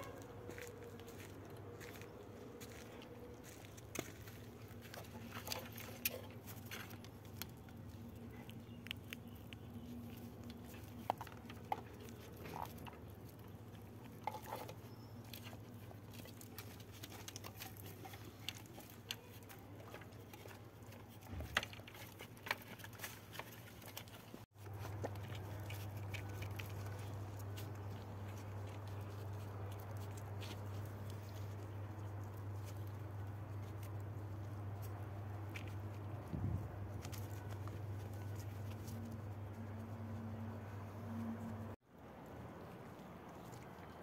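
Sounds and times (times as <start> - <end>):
puppy chewing cables: 0.8 - 44.0.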